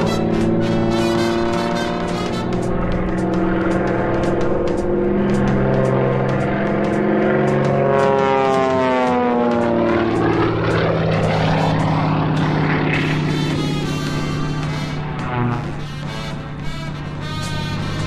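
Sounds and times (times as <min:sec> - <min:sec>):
biplane radial engine passing: 0:00.0 - 0:18.0.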